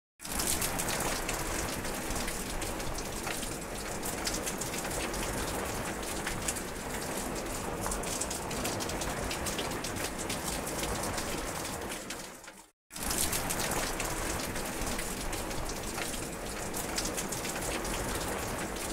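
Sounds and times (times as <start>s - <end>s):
close raindrops ticking: 0.2s - 18.9s
heavy rain falling: 0.2s - 18.9s.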